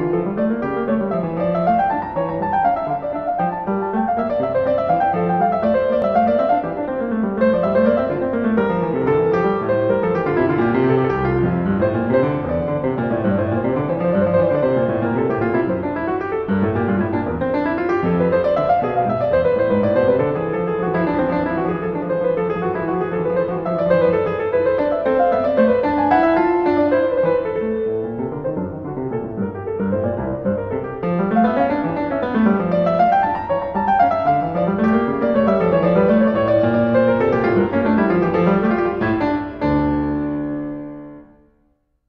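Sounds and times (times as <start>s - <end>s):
piano music: 0.0s - 41.6s.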